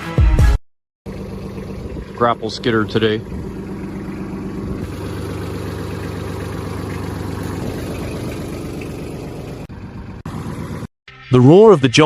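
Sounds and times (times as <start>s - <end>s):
diesel engine low hum: 1.0s - 10.9s.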